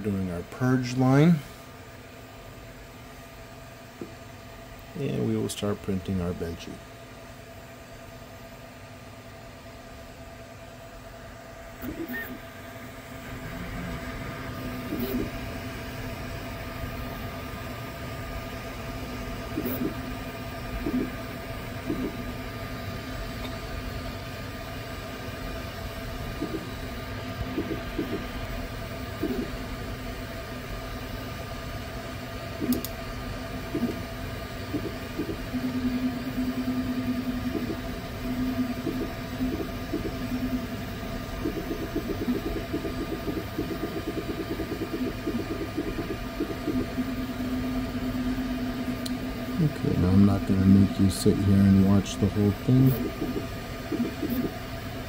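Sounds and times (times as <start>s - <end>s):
cooling fans whirring: 0.0s - 55.0s.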